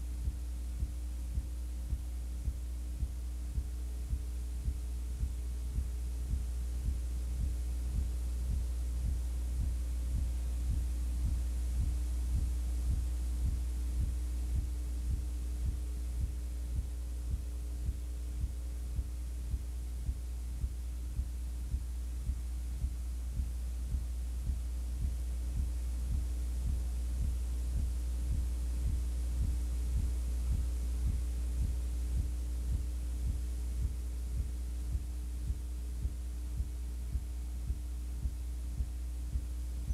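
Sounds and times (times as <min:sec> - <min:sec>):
low electrical hum: 0:00.0 - 0:39.9
regular low pulse: 0:00.0 - 0:39.9.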